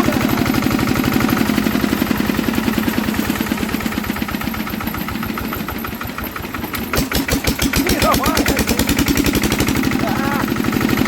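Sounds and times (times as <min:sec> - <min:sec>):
stationary diesel engine running down: 0:00.0 - 0:11.0.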